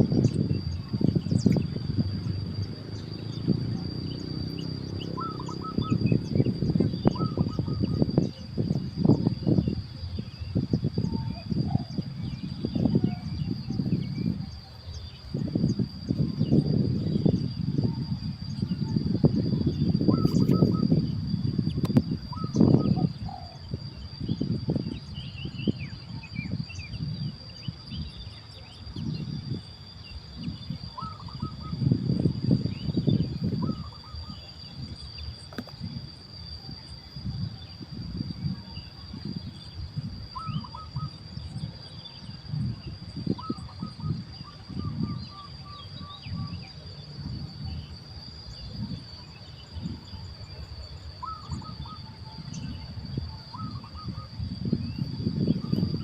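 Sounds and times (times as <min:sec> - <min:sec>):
bird calls: 0:00.0 - 0:35.9, 0:38.4 - 0:56.0
high-pitched insect drone: 0:00.0 - 0:56.0.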